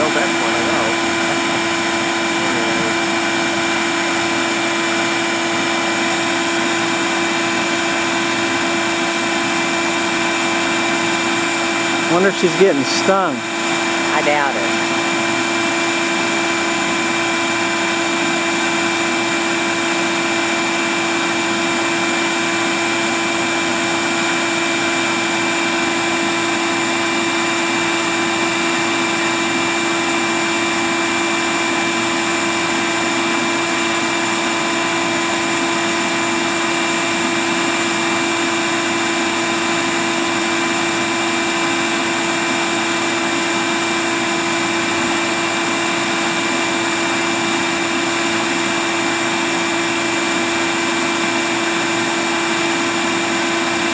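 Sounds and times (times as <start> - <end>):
vacuum motor whine: 0.0 - 53.9.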